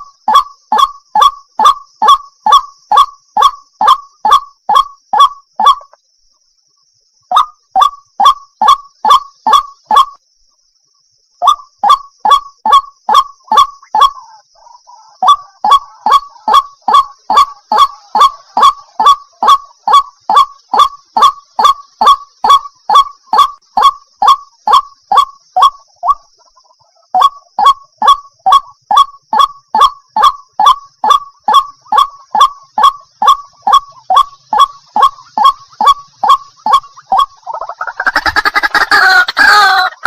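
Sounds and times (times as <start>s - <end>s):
waterhen calling: 0.0s - 6.0s, 11.4s - 40.0s.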